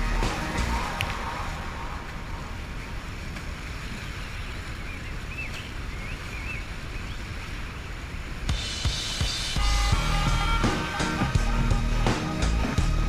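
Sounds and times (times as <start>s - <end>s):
water lapping around kayak: 0.0s - 13.0s.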